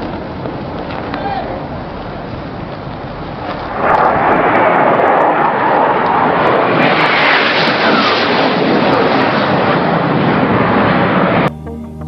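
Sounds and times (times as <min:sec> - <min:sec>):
jet aircraft roaring low pass: 0:00.0 - 0:11.5.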